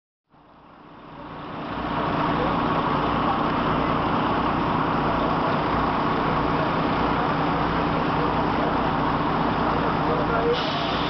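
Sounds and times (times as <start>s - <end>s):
road traffic: 0.3s - 11.0s.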